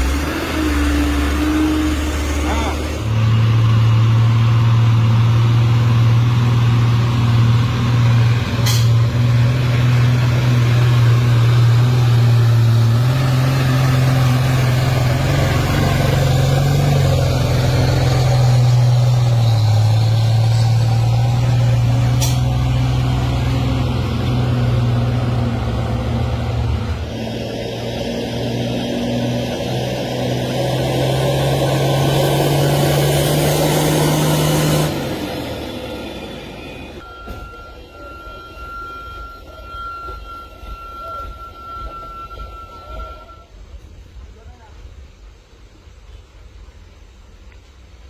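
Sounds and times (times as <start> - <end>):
truck engine running: 0.0 - 43.3.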